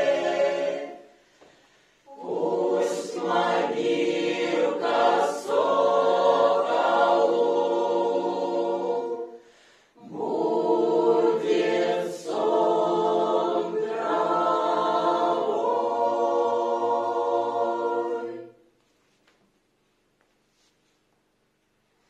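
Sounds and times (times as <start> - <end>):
mixed choir singing a cappella: 0.0 - 18.7.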